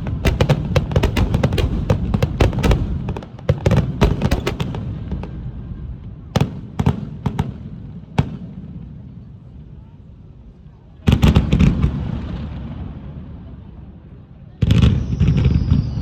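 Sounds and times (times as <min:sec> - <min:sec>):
fireworks bangs and crackle: 0:00.0 - 0:09.6, 0:11.0 - 0:16.0
fireworks rumble: 0:00.0 - 0:16.0.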